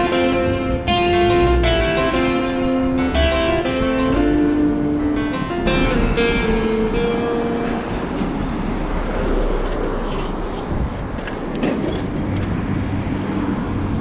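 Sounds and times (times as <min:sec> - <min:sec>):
bicycle road rumble: 0:00.0 - 0:14.0
traffic engine hum: 0:00.0 - 0:14.0
wind rushing over microphone: 0:00.0 - 0:14.0.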